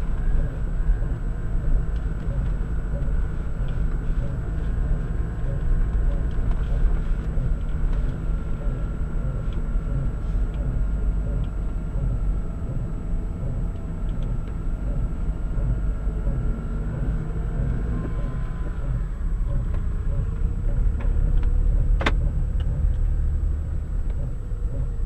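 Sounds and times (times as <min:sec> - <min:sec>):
car road rumble: 0:00.0 - 0:25.0
repeating drive shaft noise: 0:00.0 - 0:25.0.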